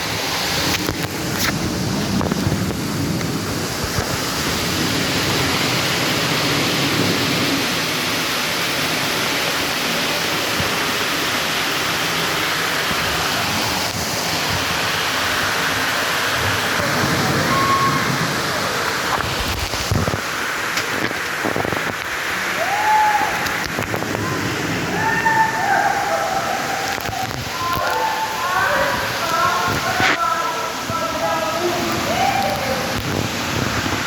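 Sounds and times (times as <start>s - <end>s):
water rushing: 0.0s - 34.0s.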